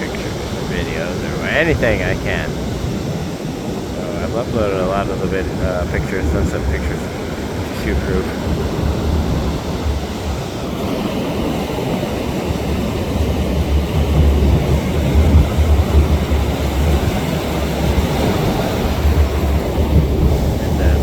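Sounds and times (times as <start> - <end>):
ocean surf: 0.0 - 21.0
wind buffeting microphone: 0.0 - 21.0.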